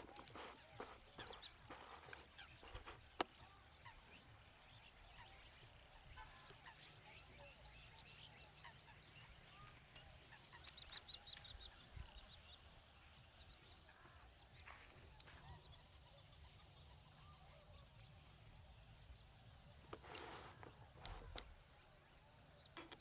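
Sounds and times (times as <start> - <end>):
starlings chattering faintly: 0.0 - 23.0.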